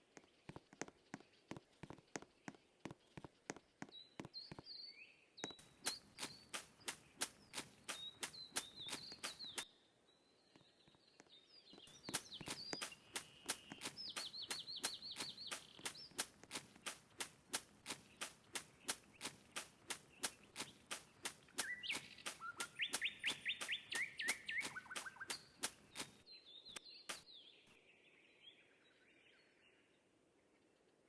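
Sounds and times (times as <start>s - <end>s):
small birds chirping: 0.0s - 29.5s.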